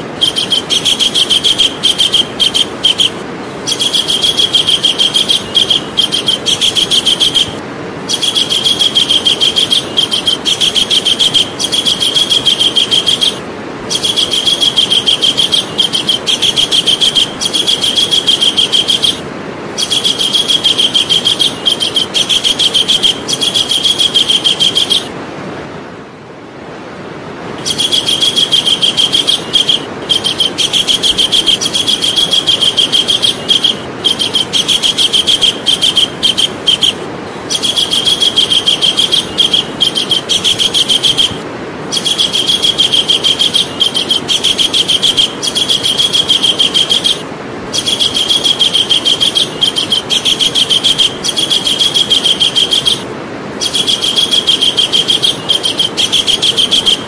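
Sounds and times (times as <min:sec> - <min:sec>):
kingfisher calling: 0:00.0 - 0:25.1, 0:27.6 - 0:57.0.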